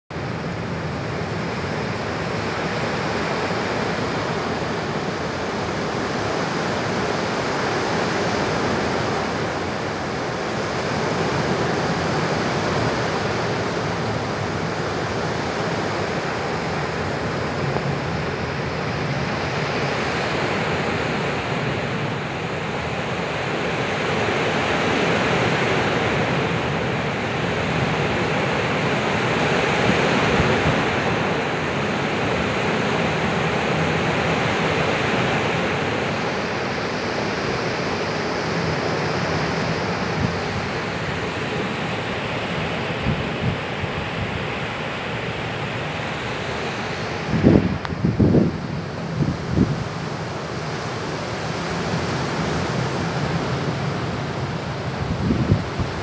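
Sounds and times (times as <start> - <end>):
seawater rushing and churning: 0.1 - 56.0.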